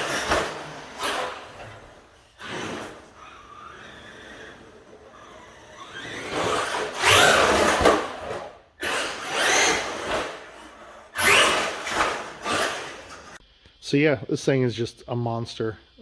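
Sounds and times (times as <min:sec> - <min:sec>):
rc truck electric motor whine: 0:00.0 - 0:13.4.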